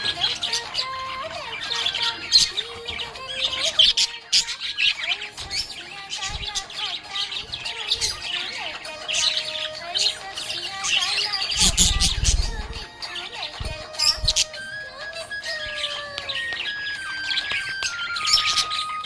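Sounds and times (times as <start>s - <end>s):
budgerigar chirping and warbling: 0.0s - 19.0s.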